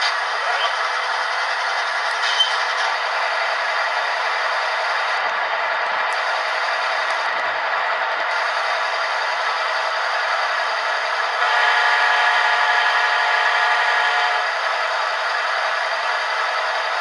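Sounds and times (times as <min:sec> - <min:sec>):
model locomotive diesel engine sound: 0:00.0 - 0:17.0.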